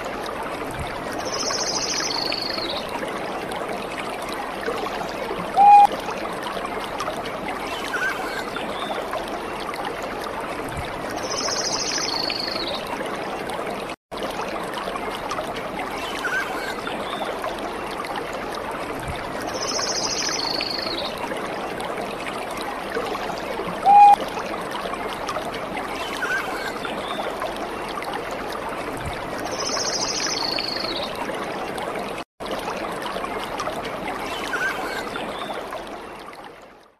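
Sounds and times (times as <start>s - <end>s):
water trickling: 0.0s - 36.9s.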